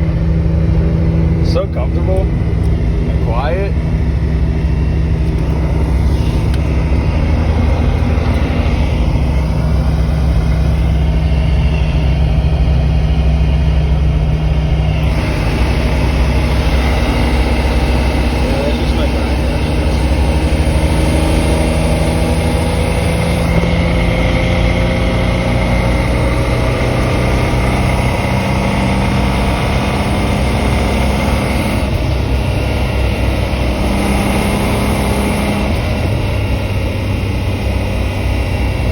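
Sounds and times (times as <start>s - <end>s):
car engine accelerating: 0.0s - 38.9s
road noise: 0.0s - 38.9s.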